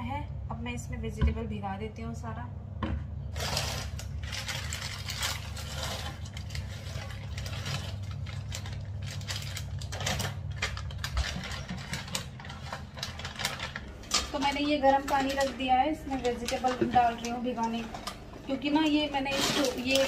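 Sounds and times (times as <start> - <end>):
frozen vegetables rattling into bowl: 3.4 - 20.0
plastic packet crinkling: 3.4 - 20.0.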